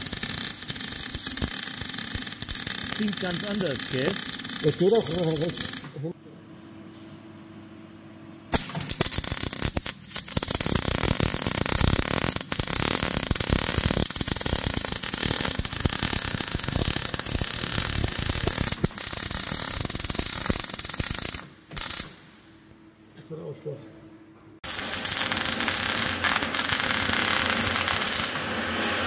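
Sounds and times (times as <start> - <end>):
welding arc crackling sizzle: 0.0 - 6.2, 8.5 - 22.2, 24.6 - 29.0.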